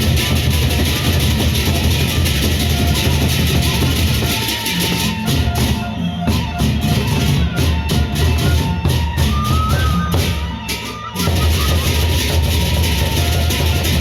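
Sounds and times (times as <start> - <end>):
barrel drums beating fast: 0.0 - 14.0.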